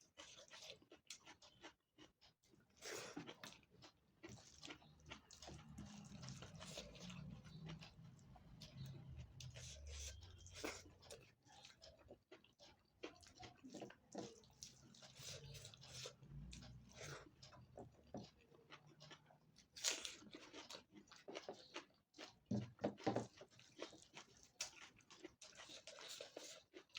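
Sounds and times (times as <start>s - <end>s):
crackling chewing bites: 0.0s - 22.5s, 23.2s - 26.9s.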